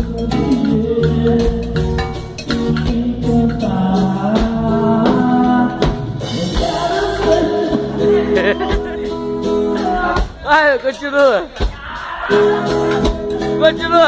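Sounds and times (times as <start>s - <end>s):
person singing: 0.0s - 10.4s, 11.8s - 13.9s
live band playing samba: 0.0s - 14.0s.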